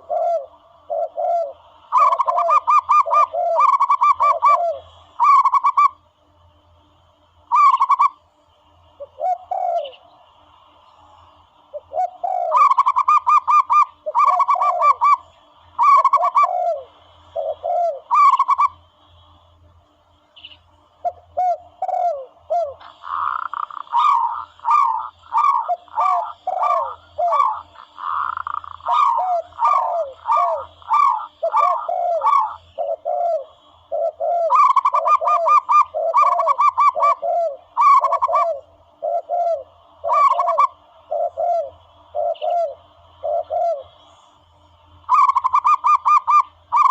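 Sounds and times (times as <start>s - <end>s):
doves cooing: 0.0s - 6.0s, 7.5s - 8.2s, 9.0s - 19.0s, 21.0s - 46.9s.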